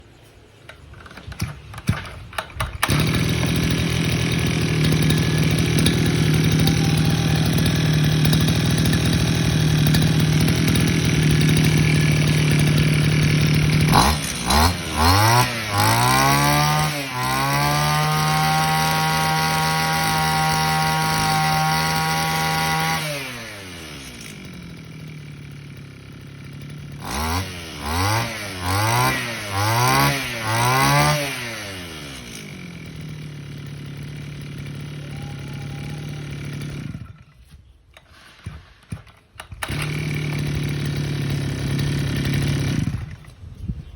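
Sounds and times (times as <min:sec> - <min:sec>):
brush cutter engine idling and revving: 0:00.7 - 0:43.9.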